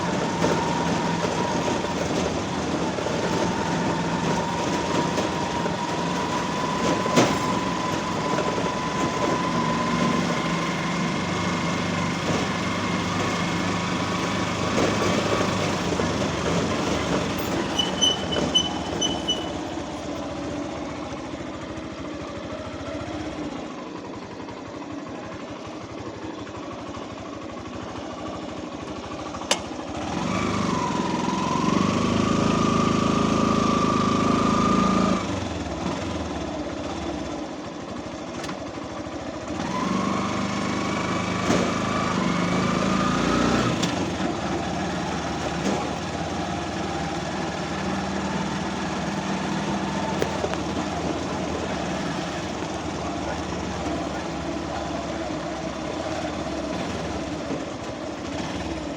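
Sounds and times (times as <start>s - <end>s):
vehicle engine with whine: 0.0s - 58.9s.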